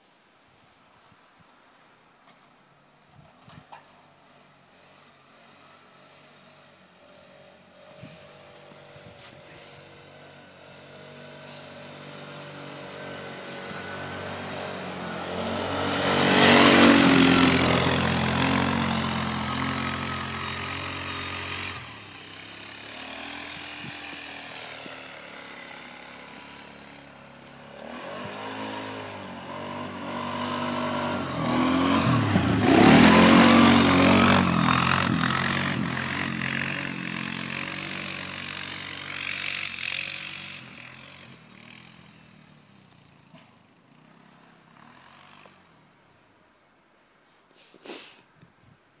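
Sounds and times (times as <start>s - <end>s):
atv engine running: 4.8s - 45.8s.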